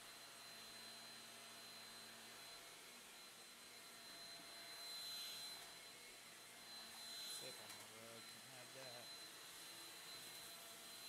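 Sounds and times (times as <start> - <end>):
stick vacuum whirring: 1.4 - 11.0.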